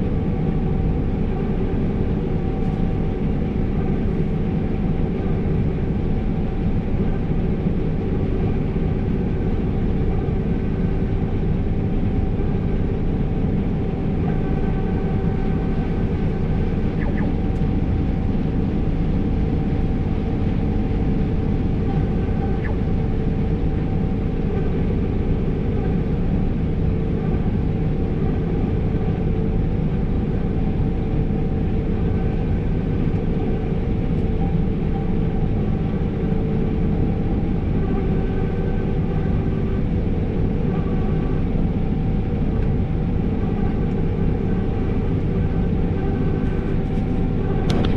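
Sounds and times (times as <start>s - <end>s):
combine harvester drone: 0.0s - 47.9s
steady machinery whine: 0.0s - 47.9s.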